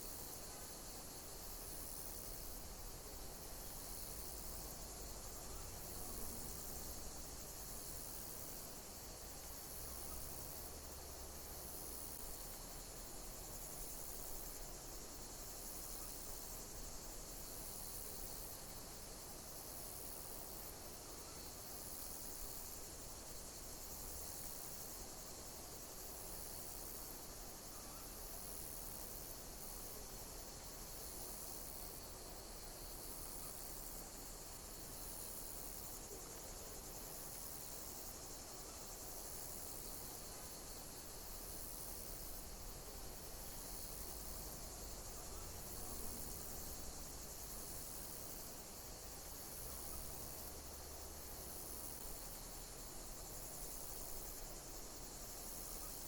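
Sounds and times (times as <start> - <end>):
constant hiss: 0.0 - 56.0
insects chirping: 0.0 - 56.0.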